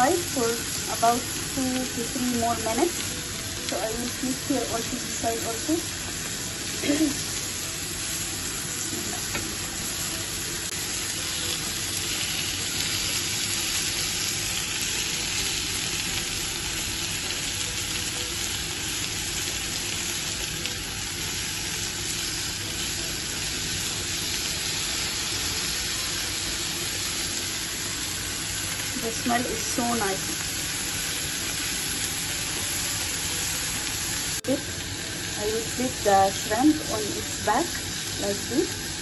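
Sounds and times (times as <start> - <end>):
shrimp sizzling in oil: 0.0 - 39.0.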